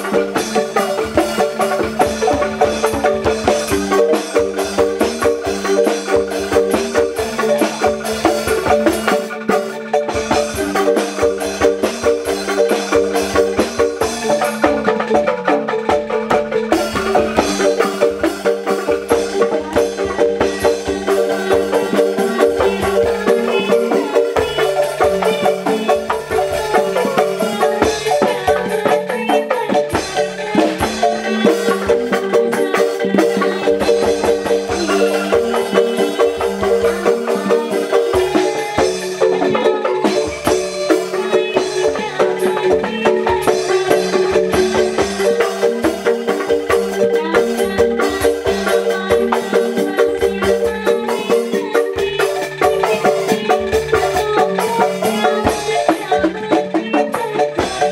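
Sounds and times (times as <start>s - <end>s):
drum beat: 0.0s - 57.9s
mallet instruments playing: 0.0s - 57.9s.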